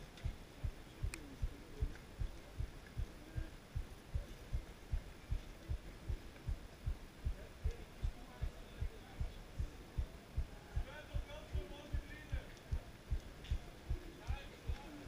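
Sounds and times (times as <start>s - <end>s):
distant bass drum beat: 0.0s - 14.8s.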